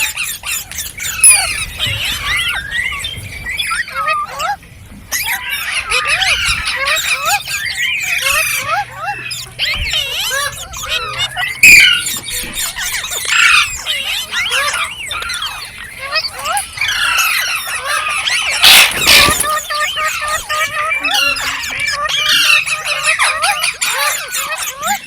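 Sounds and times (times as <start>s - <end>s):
parrot screeching: 0.0s - 25.0s
parrots chattering: 0.0s - 25.0s.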